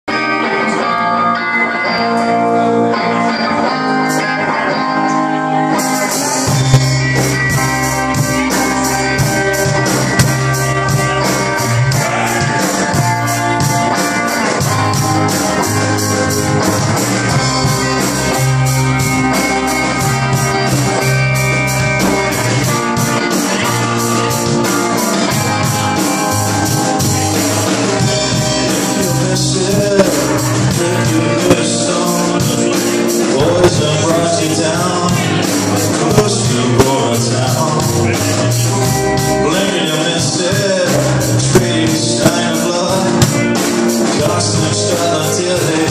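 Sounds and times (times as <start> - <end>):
electric guitar: 0.0 - 45.9
rock band playing live: 0.0 - 45.9.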